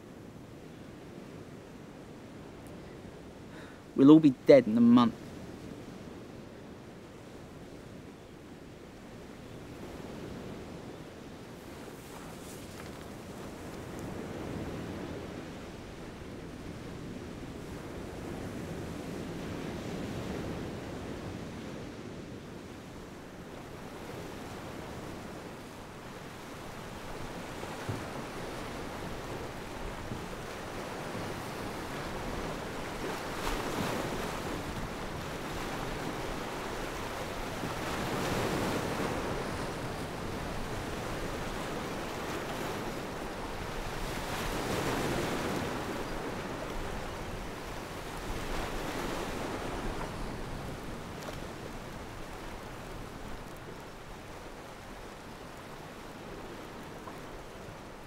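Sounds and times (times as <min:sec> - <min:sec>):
surf breaking on a beach: 0:00.0 - 0:58.0.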